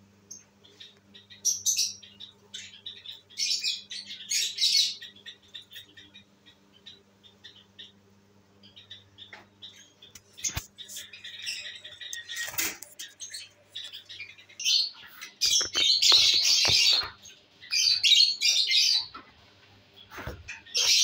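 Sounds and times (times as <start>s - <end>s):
lovebirds chirping and squawking: 0.3s - 21.0s.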